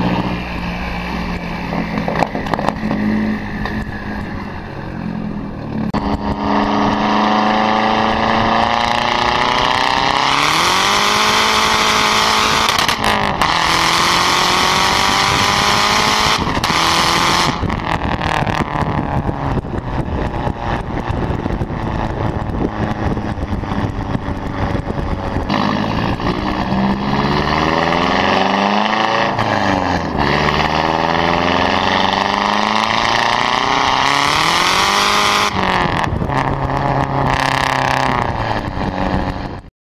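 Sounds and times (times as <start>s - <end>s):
car engine revving: 0.0s - 39.7s.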